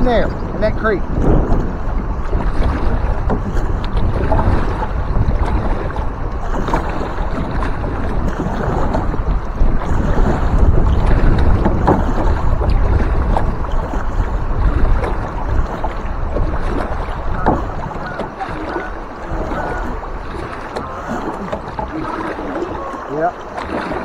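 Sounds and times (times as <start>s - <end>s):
canoe paddling on river water: 0.0s - 24.0s
wind rumbling on microphone: 0.0s - 24.0s.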